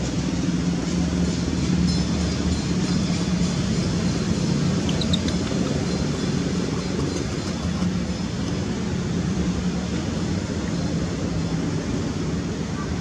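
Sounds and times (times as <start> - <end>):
low rumbling with hiss: 0.0 - 13.0.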